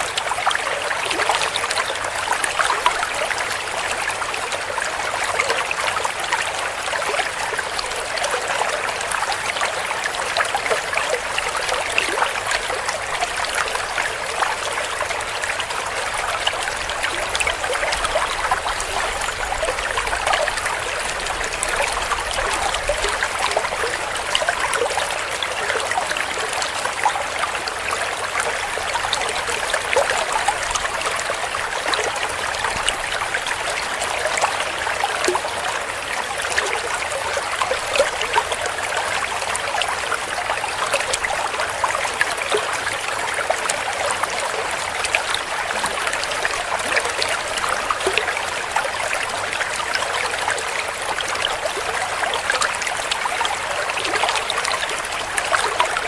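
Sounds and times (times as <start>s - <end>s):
stream gurgling over stones: 0.0s - 56.0s.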